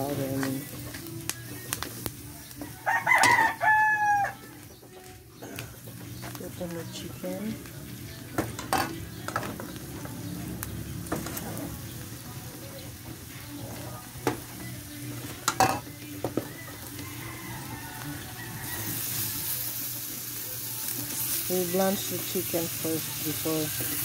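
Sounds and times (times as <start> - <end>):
food sizzling in a pan: 0.0 - 4.5, 5.5 - 24.0.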